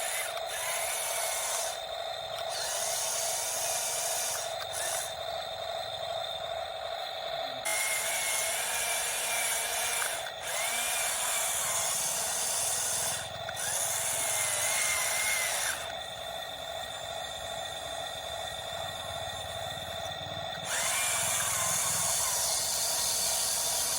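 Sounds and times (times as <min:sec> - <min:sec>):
small electric motors whirring: 0:00.0 - 0:23.9.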